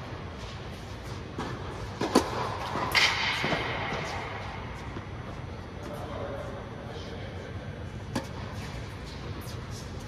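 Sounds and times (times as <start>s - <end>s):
low rumble and hiss: 0.0s - 10.0s.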